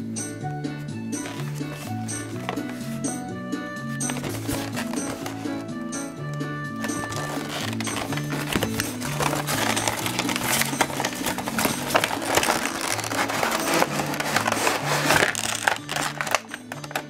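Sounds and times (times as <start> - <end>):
background music with bass: 0.0 - 17.0
cardboard and plastic crackling: 1.2 - 3.1, 3.9 - 5.9, 6.6 - 17.0.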